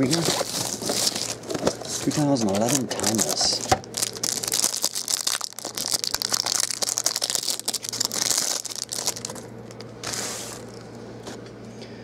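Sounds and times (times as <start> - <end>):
plastic wrapper crinkling: 0.0 - 10.8.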